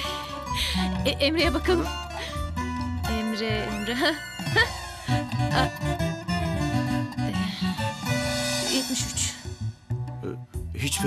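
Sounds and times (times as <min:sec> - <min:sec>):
background music low notes: 0:00.0 - 0:11.0.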